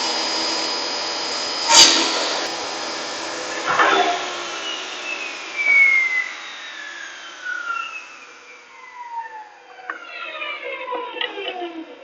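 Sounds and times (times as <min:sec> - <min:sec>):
power tool motor winding down: 0:00.0 - 0:12.0.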